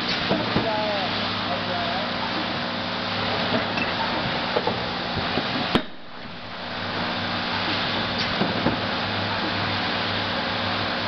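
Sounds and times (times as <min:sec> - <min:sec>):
packaging machine hum and hiss: 0:00.0 - 0:11.0.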